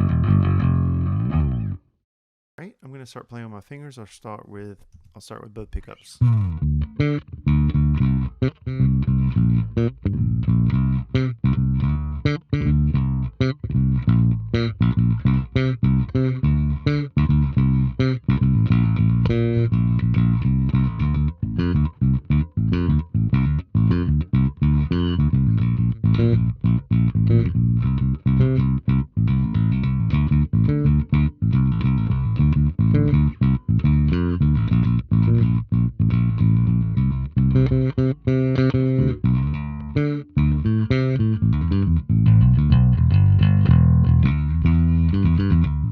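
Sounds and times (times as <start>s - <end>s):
electric bass played fingerstyle: 0.0s - 2.0s, 6.2s - 45.9s.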